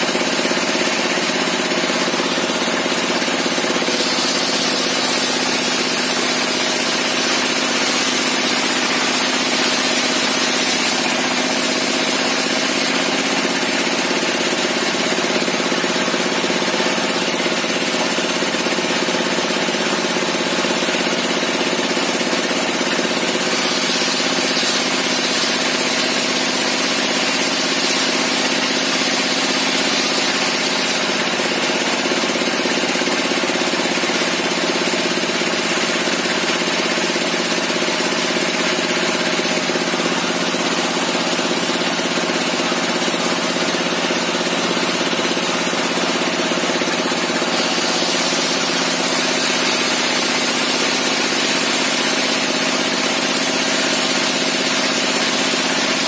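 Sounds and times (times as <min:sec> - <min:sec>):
table saw ripping wood: 0:00.0 - 0:56.0.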